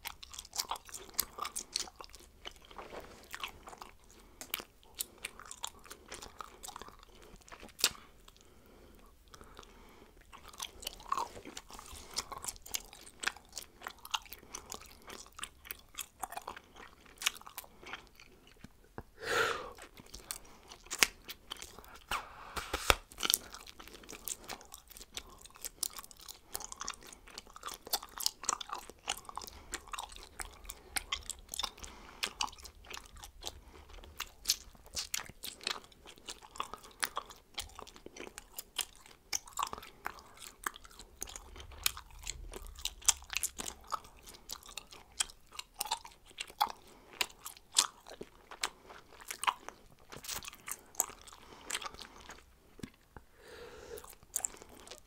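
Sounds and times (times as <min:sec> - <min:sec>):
person chewing gum with wet smacks: 0:00.0 - 0:55.0.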